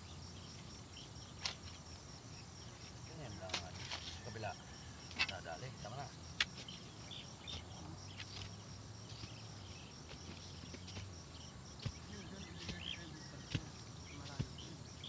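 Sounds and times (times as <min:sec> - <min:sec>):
birds chirping: 0:00.0 - 0:15.0
insects chirping: 0:00.0 - 0:15.0.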